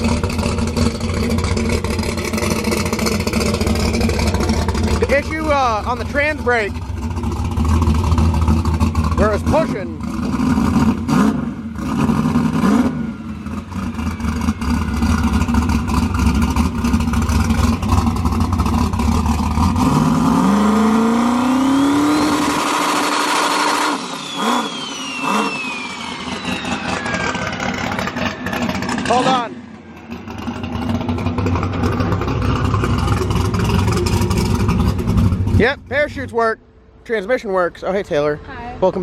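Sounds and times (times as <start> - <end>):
turbo whine: 0.0 - 36.2
drag car engine idling and revving: 0.0 - 39.0.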